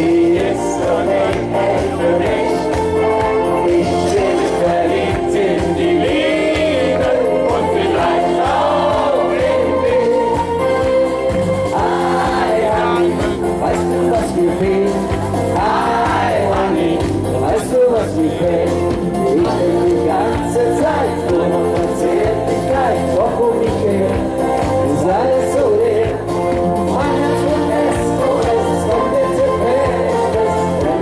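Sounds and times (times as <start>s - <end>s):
man singing into microphone: 0.0s - 10.4s, 11.7s - 31.0s
instrumental backing with bass beat: 0.0s - 31.0s.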